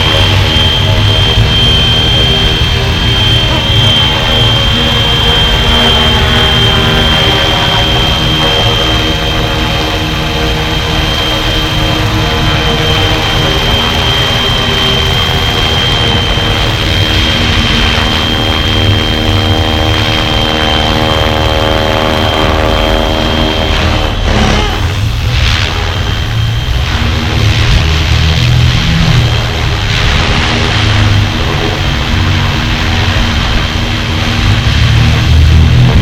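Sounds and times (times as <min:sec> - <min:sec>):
high motor whine: 0:00.0 - 0:36.0
rc helicopter rotor buzz: 0:00.0 - 0:36.0.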